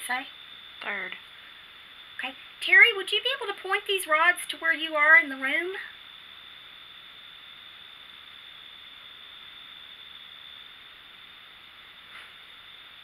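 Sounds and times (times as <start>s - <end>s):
background hiss: 0.0s - 13.0s
thin high whine: 0.0s - 13.0s.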